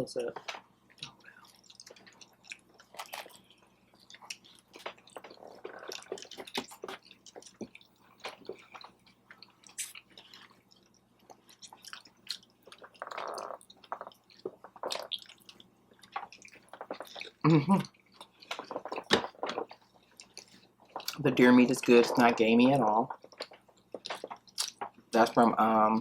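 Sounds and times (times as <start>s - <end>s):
person chewing food: 0.3s - 25.2s.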